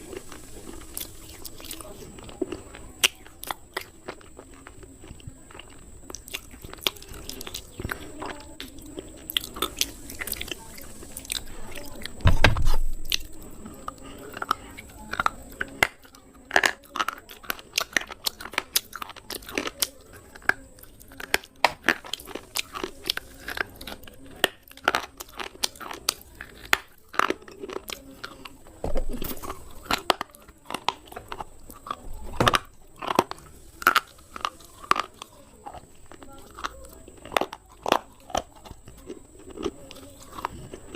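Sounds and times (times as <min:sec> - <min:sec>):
slate pencil crunching in mouth: 0:00.0 - 0:12.2, 0:13.0 - 0:40.9.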